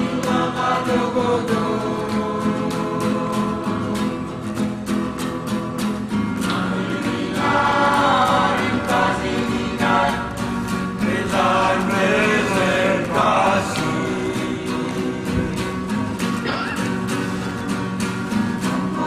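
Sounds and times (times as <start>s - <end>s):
group of voices singing: 0.0s - 19.0s
strummed acoustic guitar: 0.0s - 19.0s.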